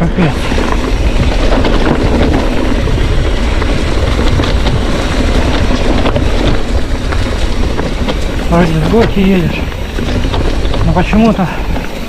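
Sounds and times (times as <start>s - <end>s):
bike tyres and rattling on dirt: 0.0s - 12.0s
scattered clicks and knocks: 0.7s - 12.0s.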